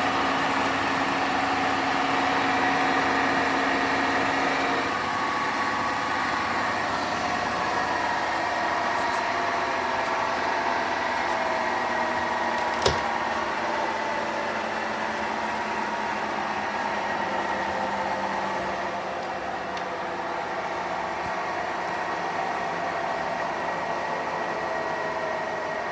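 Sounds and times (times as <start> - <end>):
washing machine grinding and whining: 0.0 - 25.9.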